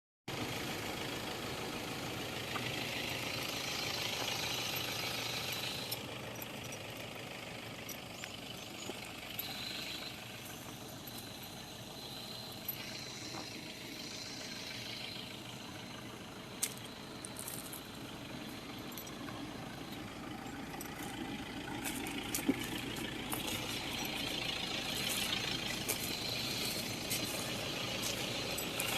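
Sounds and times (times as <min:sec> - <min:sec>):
backhoe diesel engine running: 0:00.3 - 0:28.9.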